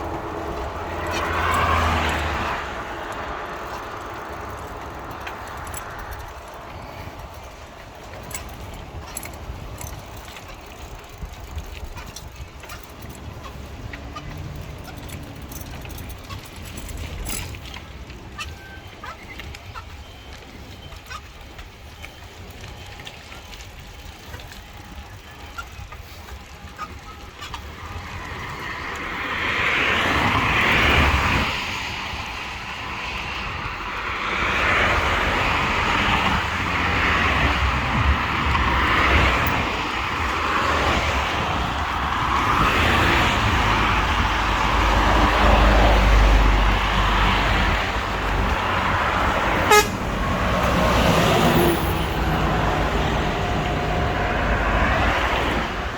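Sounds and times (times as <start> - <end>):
road traffic passing: 0.0 - 55.9.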